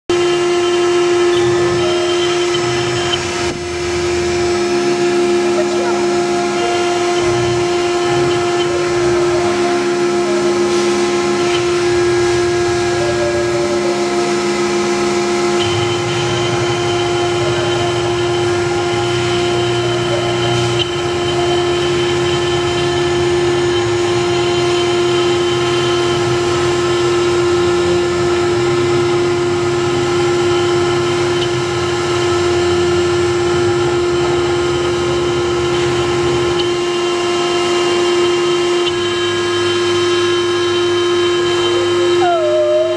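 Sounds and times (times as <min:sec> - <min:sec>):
motor hum shifting in pitch: 0:00.1 - 0:42.9
router spindle whining: 0:00.1 - 0:42.9.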